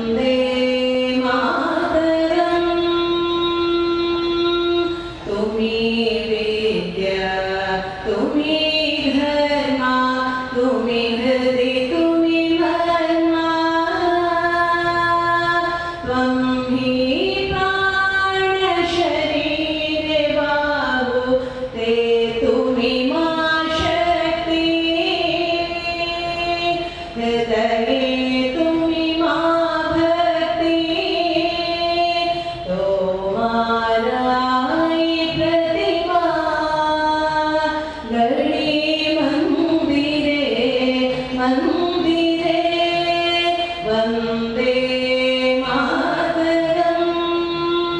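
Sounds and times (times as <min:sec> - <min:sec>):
woman singing slow melody: 0:00.0 - 0:47.9.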